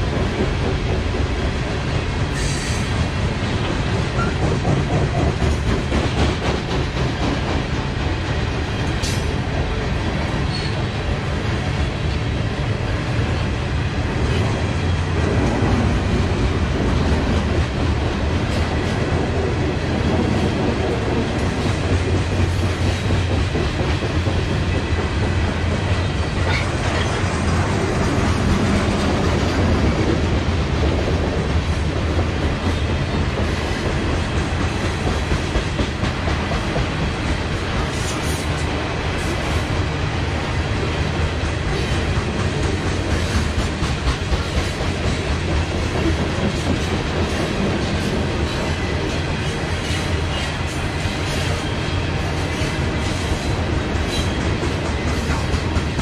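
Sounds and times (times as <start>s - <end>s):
train cars rumbling past: 0.0s - 56.0s.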